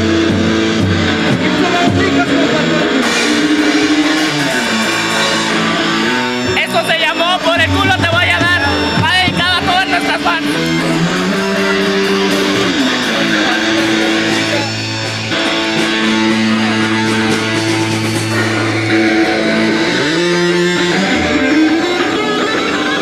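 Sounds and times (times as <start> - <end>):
bass line: 0.0 - 23.0
electric guitar sliding notes: 0.0 - 23.0.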